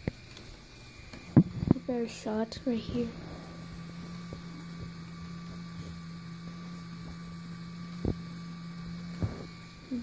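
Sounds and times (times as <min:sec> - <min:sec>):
small electric motor humming: 0:00.0 - 0:10.0.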